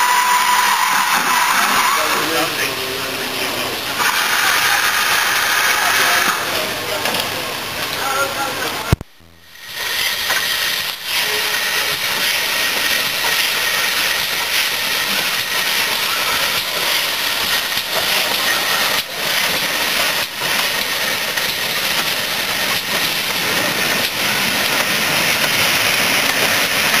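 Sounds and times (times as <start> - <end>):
steam hissing: 0.0 - 27.0
train rolling on rails: 0.0 - 27.0.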